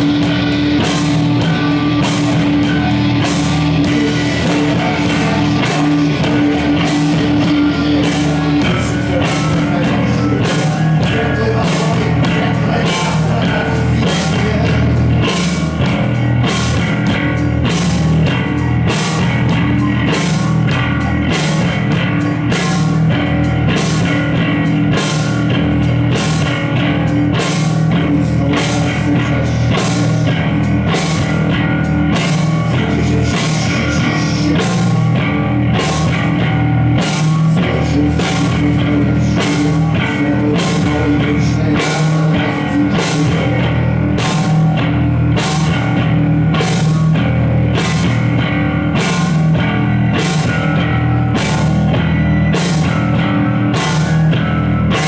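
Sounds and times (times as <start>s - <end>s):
drums keeping a steady beat: 0.0s - 55.0s
electric guitar: 0.0s - 55.0s.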